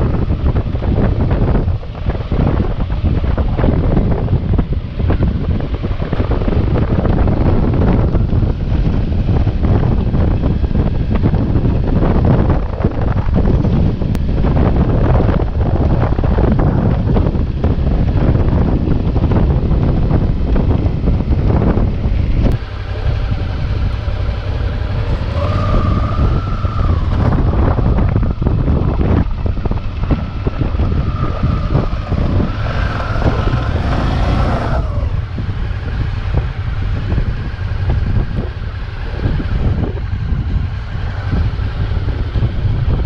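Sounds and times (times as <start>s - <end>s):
high whine: 0.0s - 43.0s
motorcycle engine running: 0.0s - 43.0s
wind rumble on microphone: 0.0s - 43.0s.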